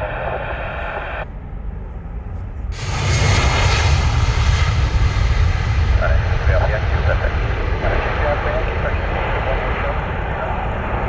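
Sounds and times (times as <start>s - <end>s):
airband radio hiss: 0.0s - 1.3s, 2.8s - 11.0s
jet engines hissing and whining: 0.0s - 1.3s, 2.7s - 11.0s.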